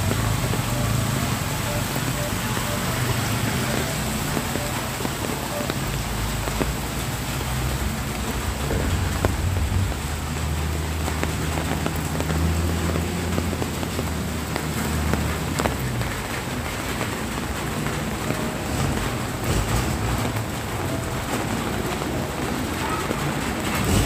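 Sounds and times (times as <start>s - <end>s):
light rain on wet road: 0.0s - 24.0s.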